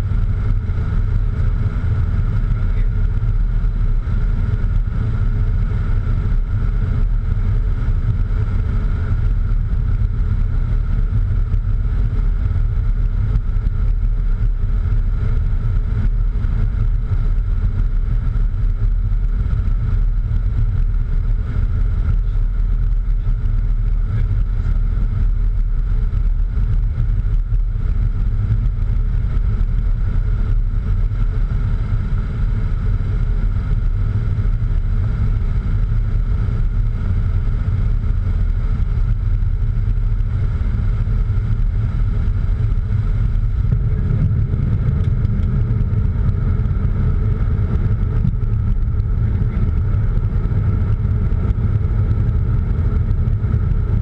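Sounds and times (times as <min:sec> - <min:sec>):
faint steady whine: 0:00.0 - 0:54.0
jet cockpit low rumble: 0:00.0 - 0:54.0.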